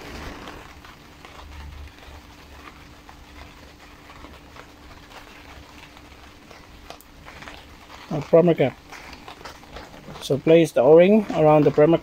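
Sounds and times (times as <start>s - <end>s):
gloved hands clicking and rubbing: 0.4s - 12.0s.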